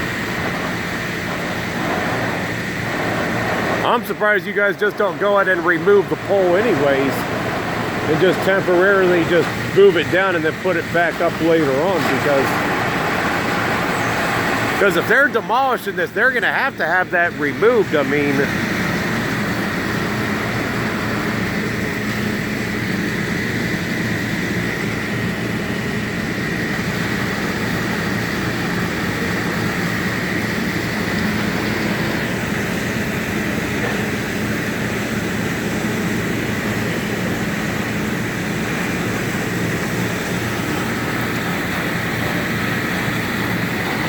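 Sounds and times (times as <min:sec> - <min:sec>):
diesel engine running: 0:00.0 - 0:44.0
thin constant whine: 0:00.0 - 0:44.0.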